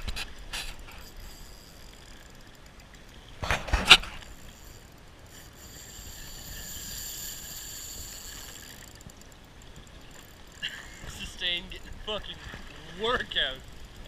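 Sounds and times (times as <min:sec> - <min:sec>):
fishing reel whining: 0:00.0 - 0:14.0.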